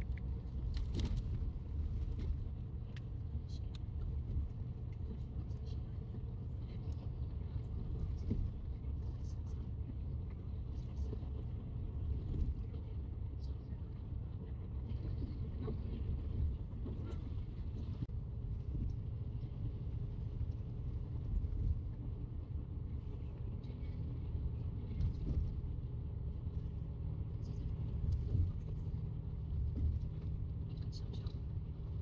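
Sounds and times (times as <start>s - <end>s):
coach engine and road noise: 0.0s - 32.0s.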